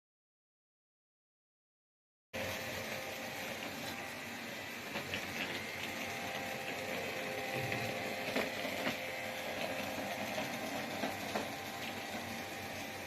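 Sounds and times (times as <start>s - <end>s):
robot vacuum cleaner whir: 2.4s - 13.0s.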